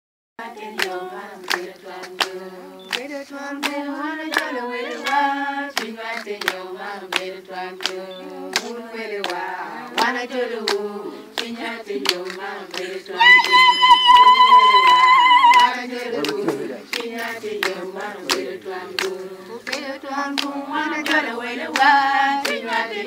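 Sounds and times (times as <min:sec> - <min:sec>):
women singing together: 0:00.4 - 0:23.0
hand-clapping beat: 0:00.6 - 0:23.0.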